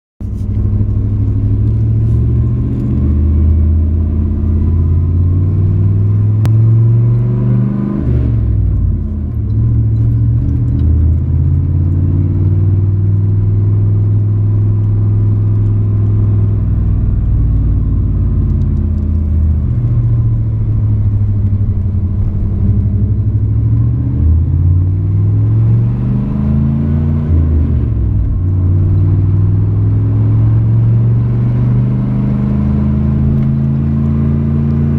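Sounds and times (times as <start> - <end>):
pickup truck engine driving: 0.2 - 34.9.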